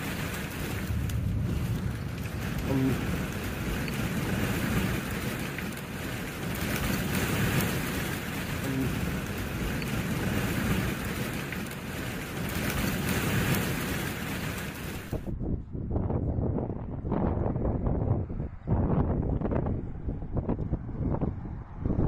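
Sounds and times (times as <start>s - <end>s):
wind and rain around a car: 0.0s - 22.0s
wind gusting on microphone: 0.0s - 22.0s.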